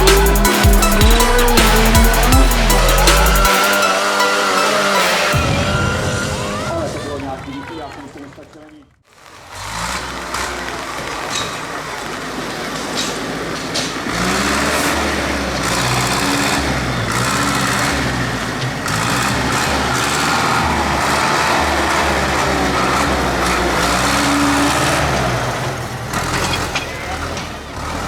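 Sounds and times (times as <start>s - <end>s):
tractor engine running: 0.0s - 6.3s, 9.2s - 28.0s.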